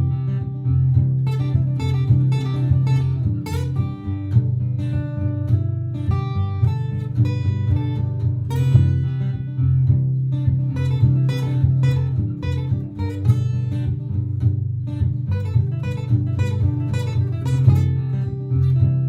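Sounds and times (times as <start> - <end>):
looped strummed acoustic guitar: 0.0 - 19.0
plucked guitar notes: 0.0 - 19.0.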